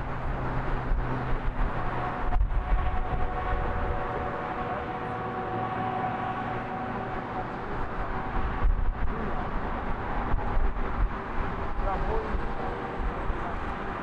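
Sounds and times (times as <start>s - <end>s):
low rumbling surges: 0.0s - 14.0s
passing train whining: 0.0s - 14.0s
train rolling noise: 0.0s - 14.0s.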